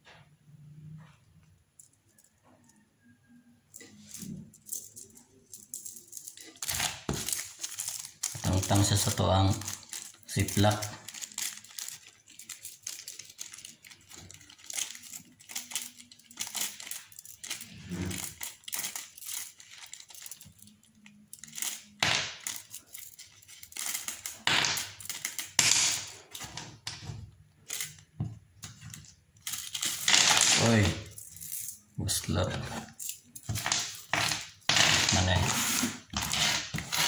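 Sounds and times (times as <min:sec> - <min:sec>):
metal parts clinking: 0:03.7 - 0:27.0, 0:27.6 - 0:37.0
plastic bag crinkling: 0:04.7 - 0:26.5, 0:27.6 - 0:37.0.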